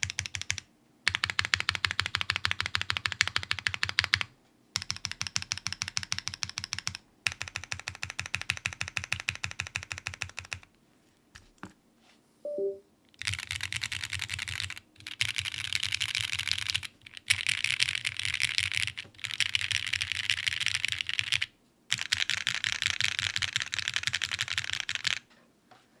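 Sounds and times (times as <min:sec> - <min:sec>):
fast typing on mechanical keyboard: 0:00.0 - 0:10.7, 0:13.2 - 0:25.3.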